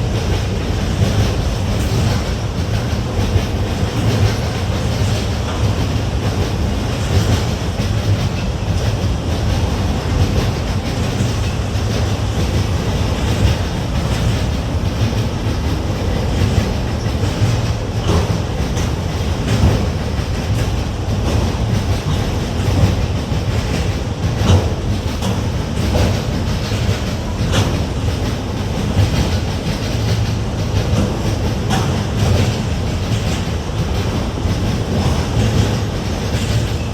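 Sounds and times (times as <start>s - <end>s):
freight train rumbling: 0.0s - 36.9s
wheels clacking over rail joints: 0.0s - 36.9s.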